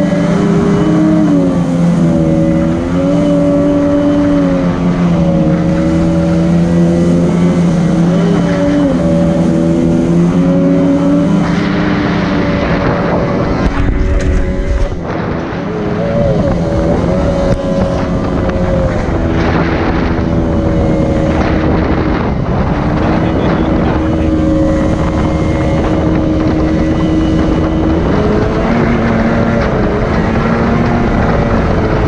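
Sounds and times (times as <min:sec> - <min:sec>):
outboard motor running: 0:00.0 - 0:32.0
rush of wind and water: 0:00.0 - 0:32.0.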